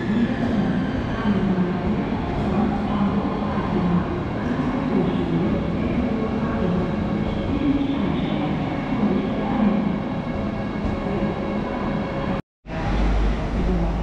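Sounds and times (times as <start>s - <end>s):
train running on track: 0.0s - 14.0s.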